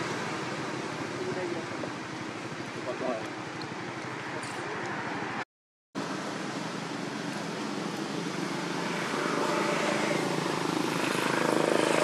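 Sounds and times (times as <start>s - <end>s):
engine noise: 0.0s - 5.4s, 6.0s - 12.0s.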